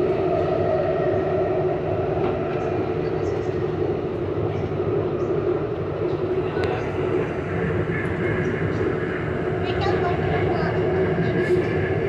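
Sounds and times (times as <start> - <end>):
constant hum: 0.0 - 12.0
metro train running on track: 0.0 - 12.0.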